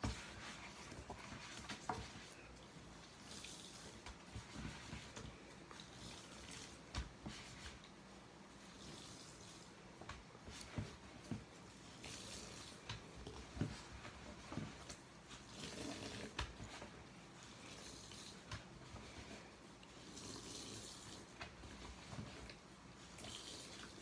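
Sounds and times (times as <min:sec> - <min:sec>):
wet sponge squishing: 0:00.0 - 0:24.0.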